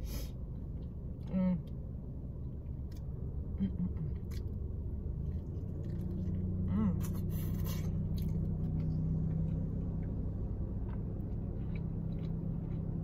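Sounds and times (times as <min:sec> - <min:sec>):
car engine hum: 0:00.0 - 0:13.0.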